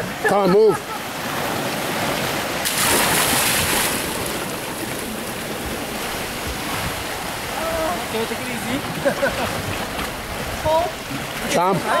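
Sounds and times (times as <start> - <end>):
sea water washing: 0.0 - 12.0.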